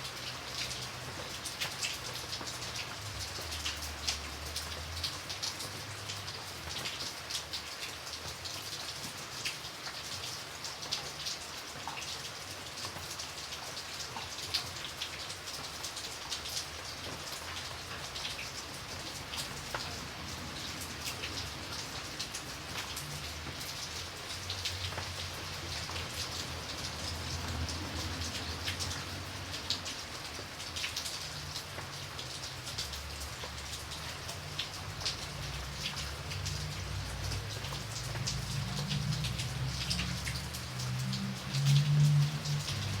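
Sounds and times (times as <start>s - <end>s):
rain drops pattering: 0.0s - 43.0s.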